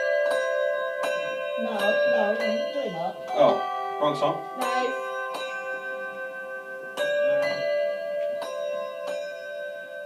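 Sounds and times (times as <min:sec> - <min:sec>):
handbells ringing: 0:00.0 - 0:10.0.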